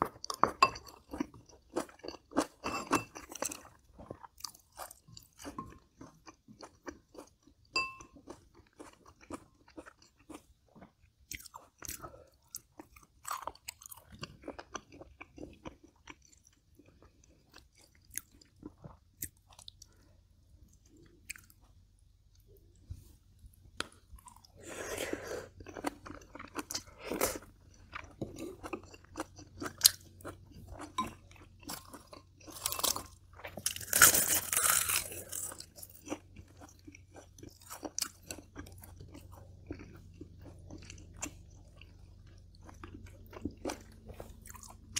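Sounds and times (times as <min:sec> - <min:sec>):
close chewing and crunching: 0:00.0 - 0:44.9.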